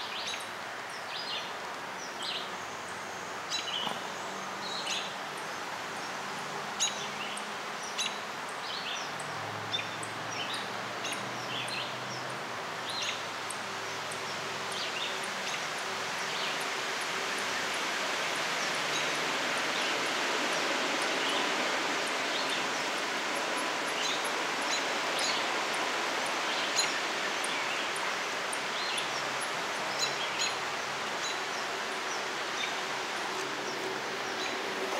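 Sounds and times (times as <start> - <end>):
steady outdoor hiss: 0.0 - 34.9.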